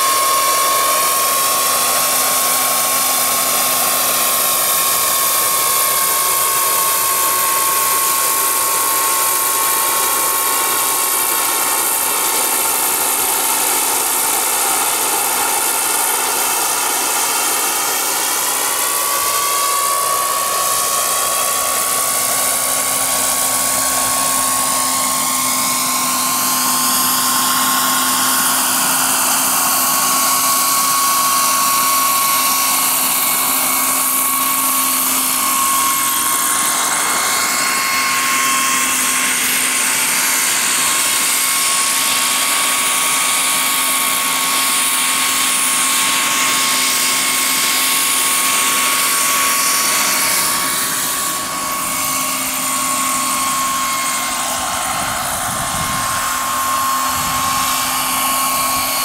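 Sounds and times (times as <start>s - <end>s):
model helicopter turbine whine: 0.0s - 59.0s.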